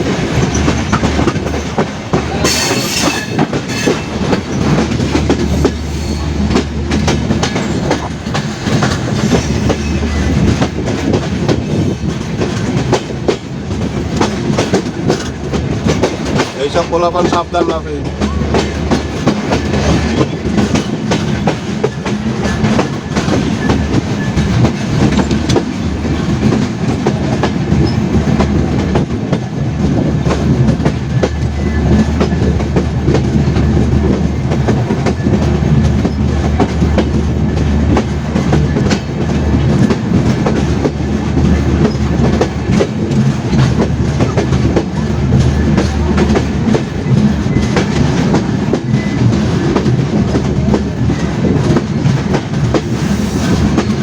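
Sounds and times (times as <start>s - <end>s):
train rumbling: 0.0s - 54.0s
train wheels clattering over rail joints: 0.0s - 54.0s.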